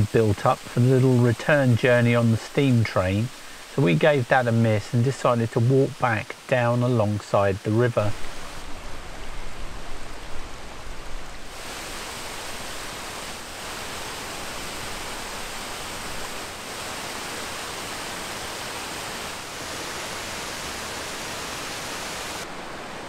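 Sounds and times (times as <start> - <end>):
river water rushing over stones: 0.0 - 23.0.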